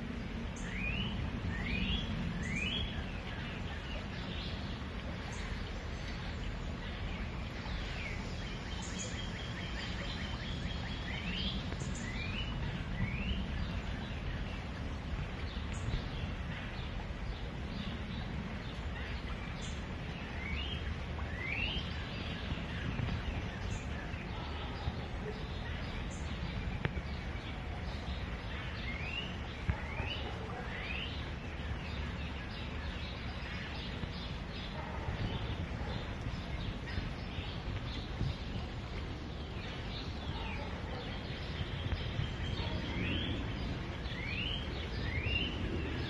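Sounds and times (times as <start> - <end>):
forest stream rushing: 0.0 - 46.0
birds chirping: 0.6 - 46.0.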